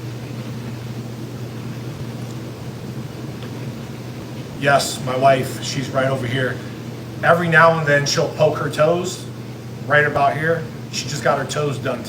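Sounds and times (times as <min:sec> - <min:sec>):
motor humming and hissing: 0:00.0 - 0:12.0.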